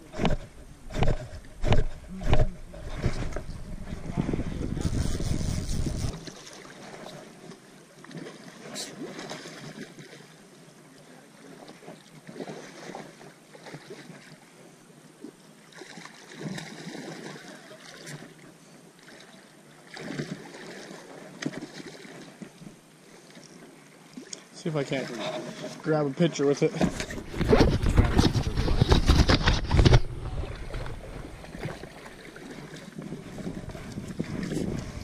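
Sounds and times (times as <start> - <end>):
water sloshing and splashing: 0.0 - 10.5, 11.3 - 35.0.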